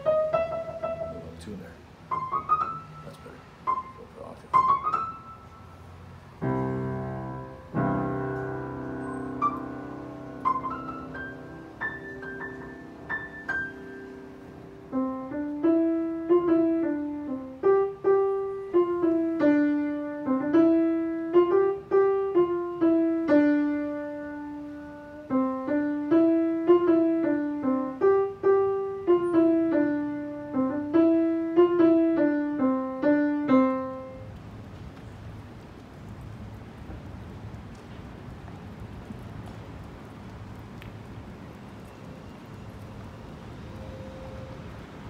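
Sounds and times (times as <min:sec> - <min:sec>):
solo piano: 0:00.0 - 0:45.0.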